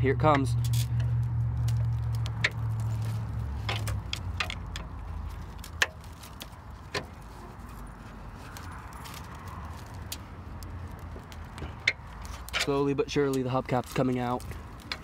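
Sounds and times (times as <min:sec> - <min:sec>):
dry bramble stems snapping: 0:00.5 - 0:15.0.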